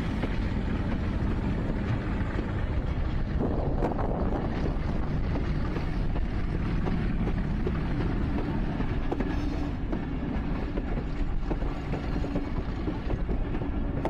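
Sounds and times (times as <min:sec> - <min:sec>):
train wheels rumbling on rail: 0:00.0 - 0:14.0
wind buffeting microphone: 0:00.0 - 0:14.0.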